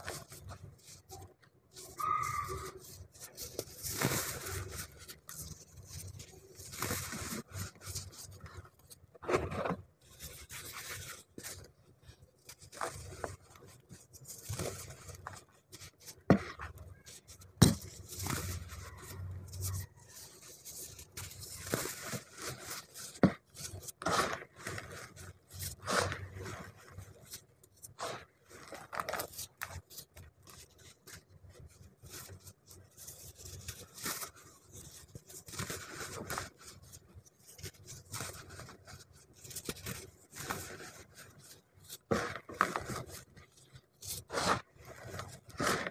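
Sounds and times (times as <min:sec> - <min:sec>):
hands crumbling dry powder: 0:00.0 - 0:08.9, 0:12.4 - 0:45.9.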